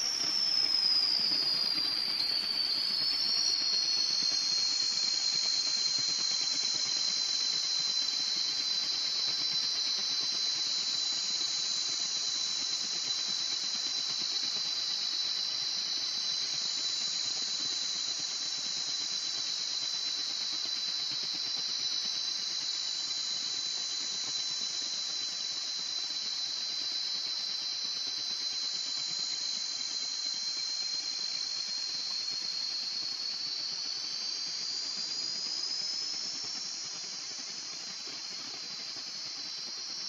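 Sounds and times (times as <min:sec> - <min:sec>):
gliding whistling tones: 0:00.0 - 0:40.0
steady whistling tone: 0:00.0 - 0:40.0.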